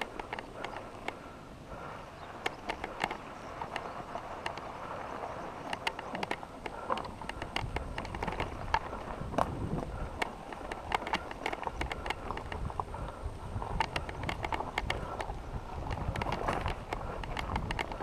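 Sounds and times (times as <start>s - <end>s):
bike clicks and rattles: 0.0s - 18.0s
bike tyres crunching on gravel: 0.0s - 18.0s.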